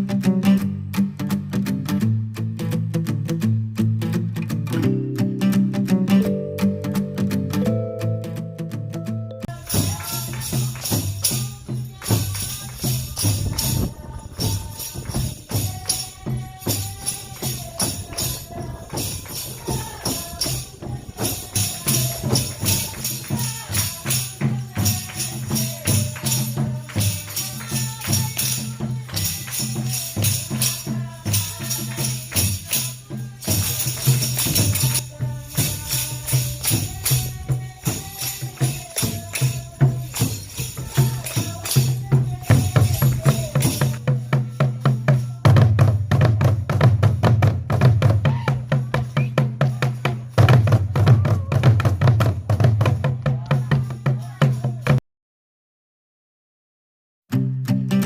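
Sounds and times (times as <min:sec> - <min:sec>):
music with percussive beat: 0:04.6 - 0:55.0.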